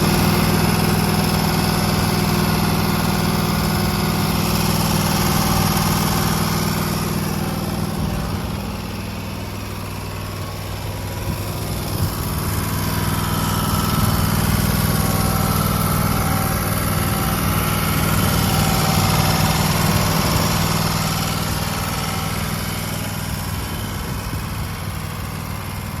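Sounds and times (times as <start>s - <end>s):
mower engine running: 0.0s - 26.0s.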